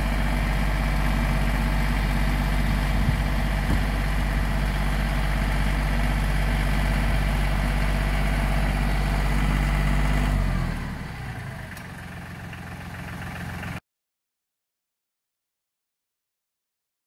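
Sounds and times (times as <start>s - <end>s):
tractor diesel engine running: 0.0s - 13.8s.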